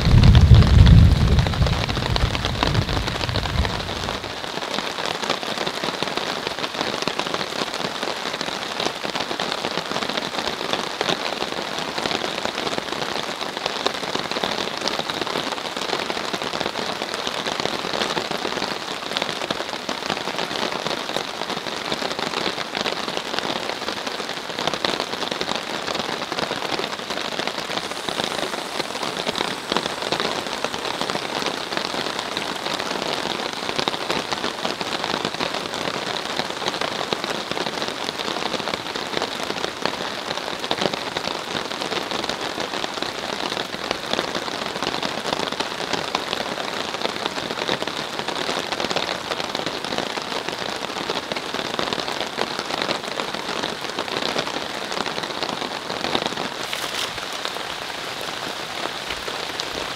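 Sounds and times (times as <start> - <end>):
rain falling on a tarp: 0.0 - 59.9.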